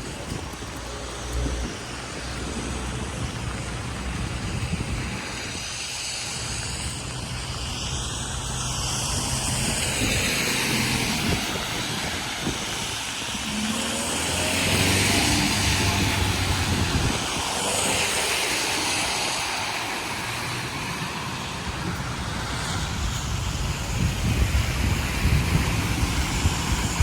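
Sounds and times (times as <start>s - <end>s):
passing vehicle engines: 0.0s - 27.0s.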